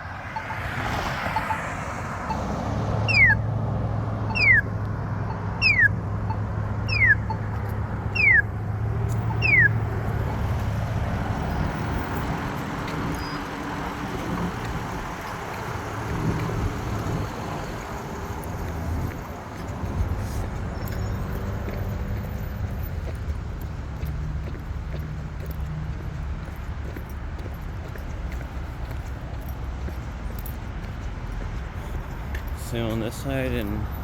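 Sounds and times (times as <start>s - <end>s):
traffic: 0.0s - 34.0s.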